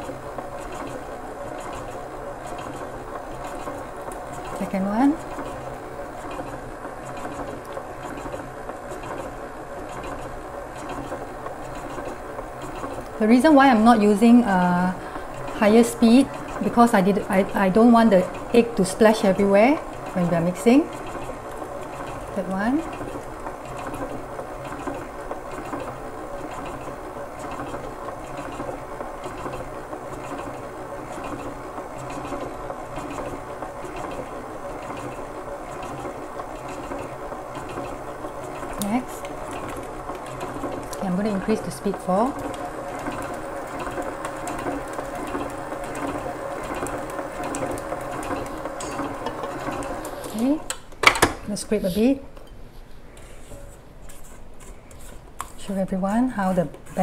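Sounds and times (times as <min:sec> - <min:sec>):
electric stand mixer running: 0:00.0 - 0:50.7.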